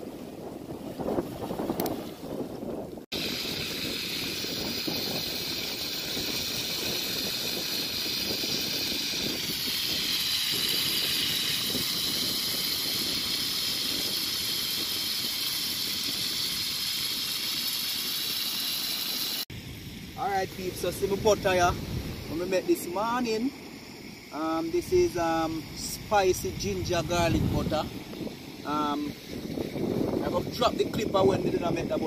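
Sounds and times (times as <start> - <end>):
lobster sizzling in oil: 3.1 - 32.0.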